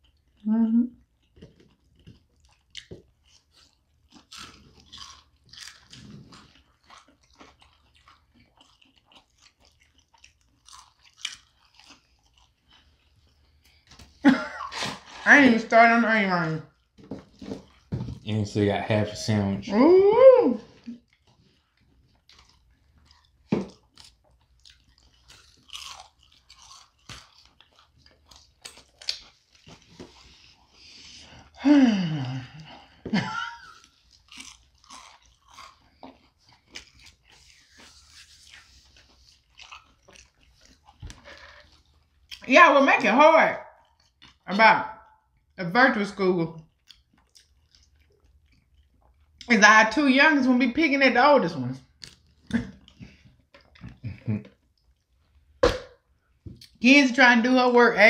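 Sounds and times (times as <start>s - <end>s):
crunchy chewing of fried food: 0.0s - 15.2s, 16.7s - 19.5s, 20.7s - 42.5s, 43.8s - 44.5s, 46.6s - 49.5s, 51.8s - 56.8s.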